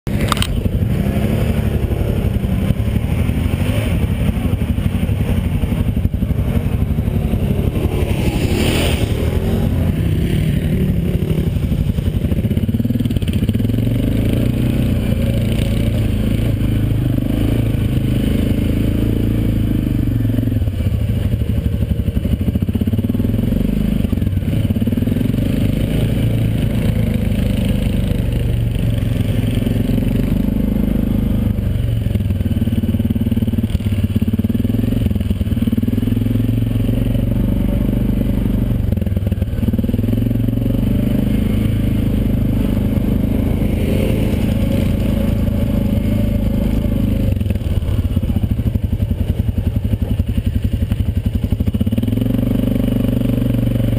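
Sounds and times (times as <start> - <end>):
quad bike engine: 0.0 - 53.9.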